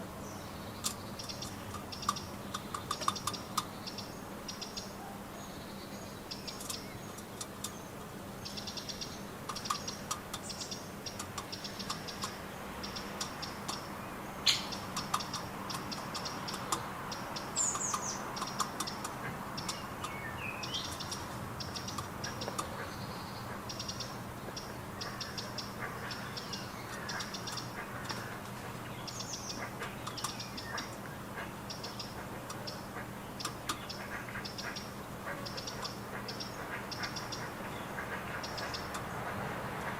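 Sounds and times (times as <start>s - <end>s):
birds chirping: 0.0s - 39.9s
rapid high ticking: 0.7s - 4.9s, 6.3s - 39.9s.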